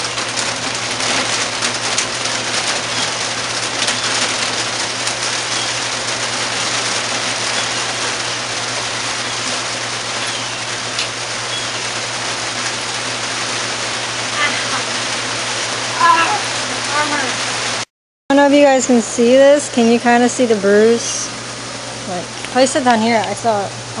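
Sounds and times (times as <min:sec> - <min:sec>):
heavy rain on a roof: 0:00.0 - 0:17.9, 0:18.6 - 0:24.0.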